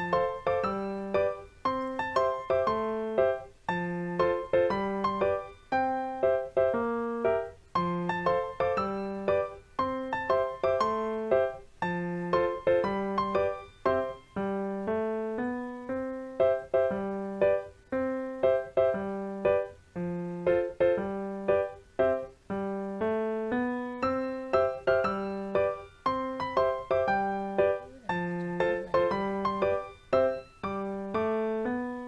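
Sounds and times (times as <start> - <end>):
keyboard music: 0.0 - 32.0.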